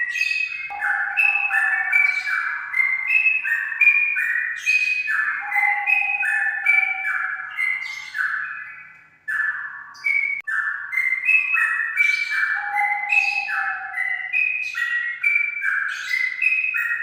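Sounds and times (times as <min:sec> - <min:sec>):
bulbul singing: 0:00.0 - 0:17.0.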